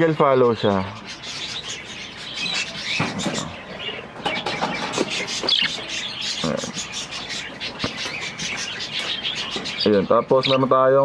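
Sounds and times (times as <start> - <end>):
budgerigars chattering: 0.0 - 11.0.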